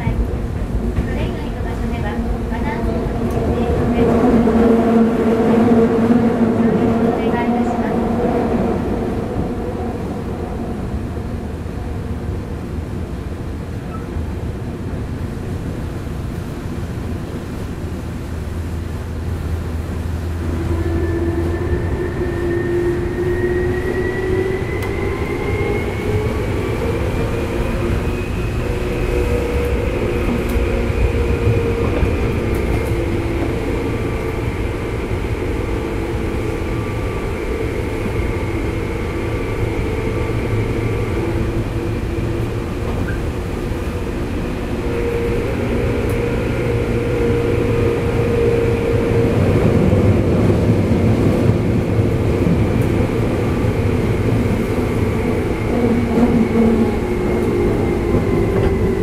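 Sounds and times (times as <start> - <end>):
wheels rumbling on rails: 0.0 - 59.0.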